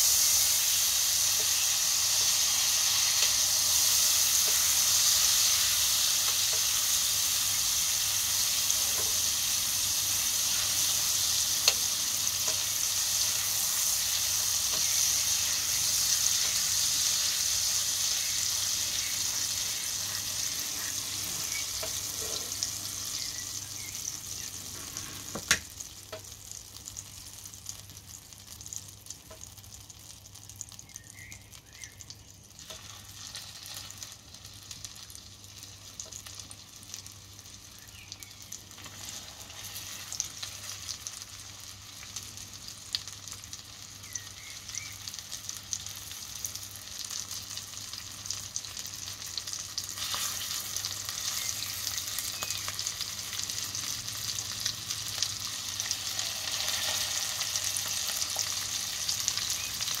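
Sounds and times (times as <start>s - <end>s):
crackling sizzle of frying: 0.0s - 60.0s.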